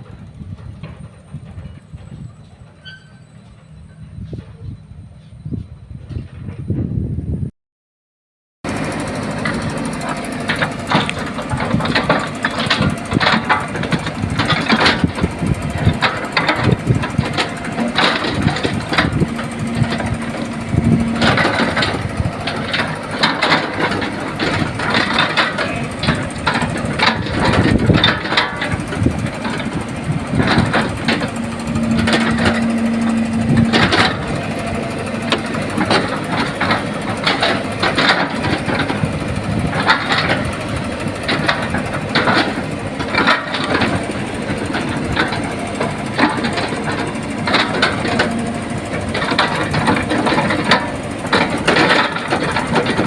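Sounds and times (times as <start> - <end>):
excavator engine running: 0.0 - 7.5, 8.6 - 53.0
metal knocks and scrapes: 9.4 - 53.0.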